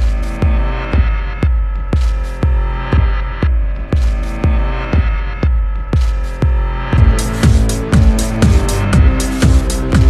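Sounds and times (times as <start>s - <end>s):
music with deep thumping beat: 0.0s - 10.0s.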